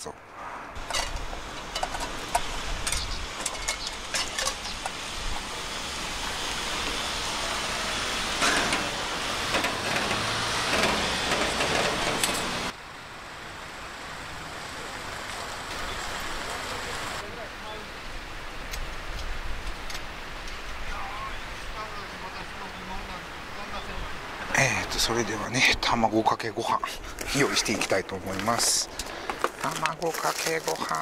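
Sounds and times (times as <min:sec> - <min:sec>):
steady rushing noise: 0:00.0 - 0:30.1.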